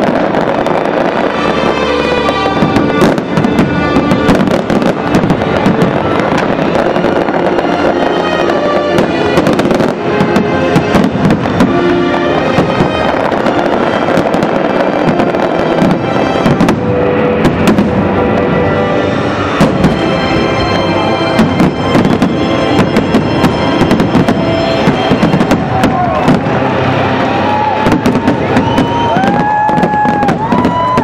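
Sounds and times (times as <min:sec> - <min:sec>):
fireworks bursting: 0:00.0 - 0:31.0
loud music: 0:00.0 - 0:31.0.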